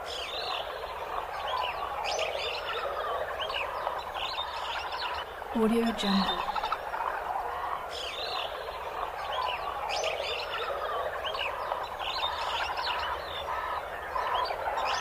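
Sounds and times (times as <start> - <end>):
wild birds chirping and singing: 0.0 - 15.0.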